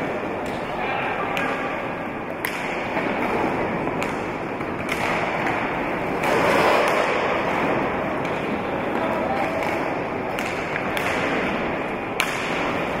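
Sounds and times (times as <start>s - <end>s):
crowd noise: 0.0s - 13.0s
skate wheels rolling on floor: 0.0s - 13.0s.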